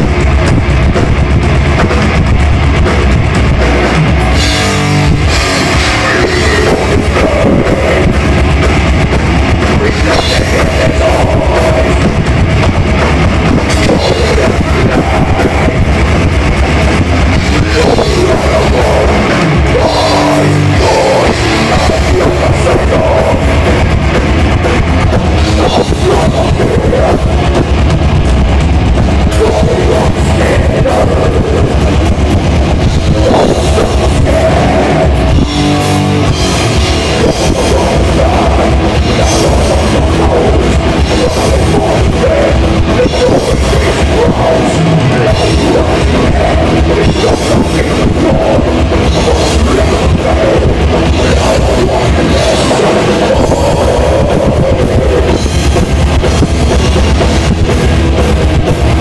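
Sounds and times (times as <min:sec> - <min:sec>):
distorted electric guitars: 0:00.0 - 0:59.0
fast drum kit: 0:00.0 - 0:59.0.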